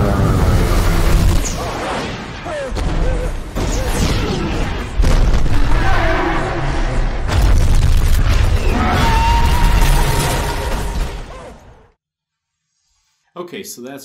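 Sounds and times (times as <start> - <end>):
booms and crashes: 0.1 - 11.9.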